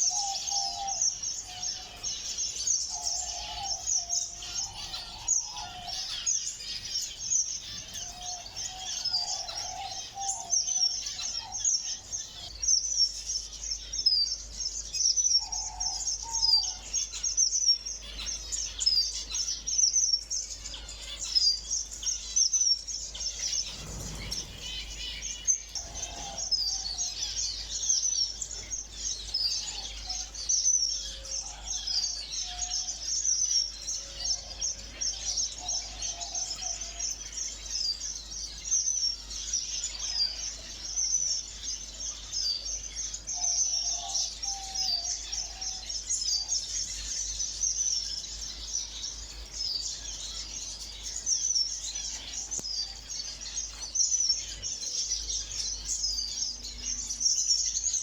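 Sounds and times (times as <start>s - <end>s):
lower bird calls: 0.0s - 58.0s
small birds chirping: 0.0s - 58.0s.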